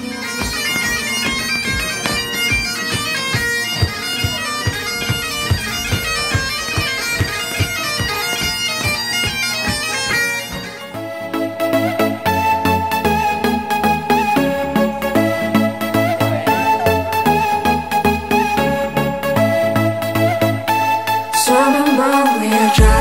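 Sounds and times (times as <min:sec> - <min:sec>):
bagpipe chanter melody: 0:00.0 - 0:23.0
bagpipe drone: 0:00.0 - 0:23.0.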